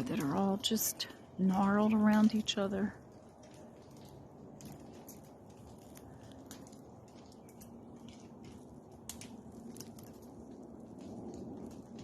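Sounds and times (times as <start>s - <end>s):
seed pods dropping through branches: 0.0s - 12.0s.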